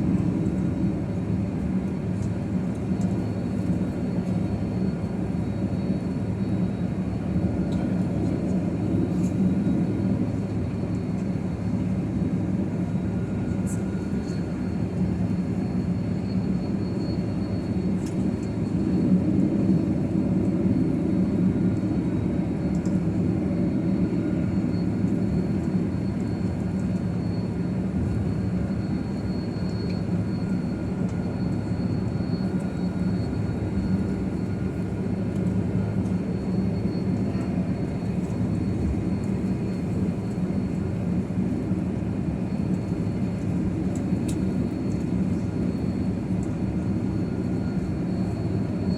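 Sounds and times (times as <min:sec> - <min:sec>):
jet engine and cabin air hum: 0:00.0 - 0:48.9.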